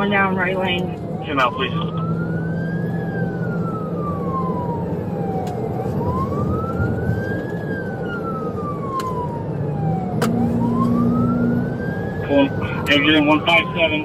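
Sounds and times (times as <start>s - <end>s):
car road and engine noise: 0.0s - 14.0s
police siren wailing: 0.0s - 14.0s.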